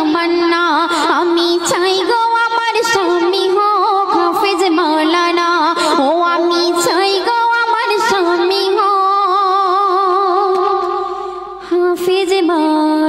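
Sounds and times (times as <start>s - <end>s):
girl singing into a microphone: 0.0s - 13.0s.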